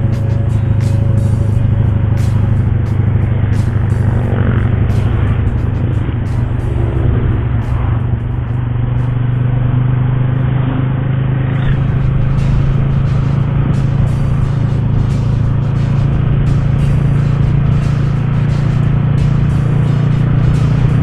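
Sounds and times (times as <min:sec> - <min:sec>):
motorcycle engine running: 0:00.0 - 0:21.0
road noise: 0:00.0 - 0:21.0
wind noise: 0:00.0 - 0:21.0.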